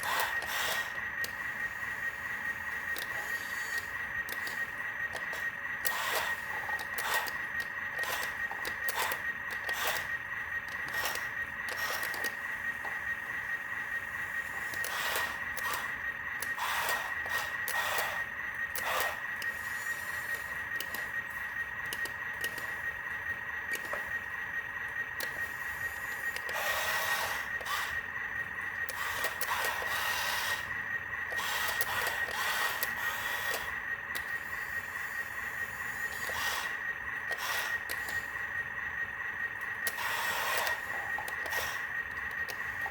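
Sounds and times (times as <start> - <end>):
toy truck motor whining: 0.0 - 23.0, 23.6 - 42.9.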